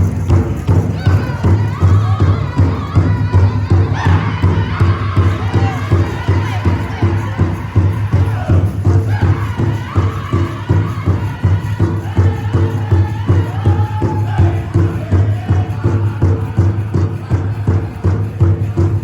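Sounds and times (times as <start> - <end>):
large drum steady fast beat: 0.0 - 19.0
voices singing high-pitched song: 0.9 - 17.4.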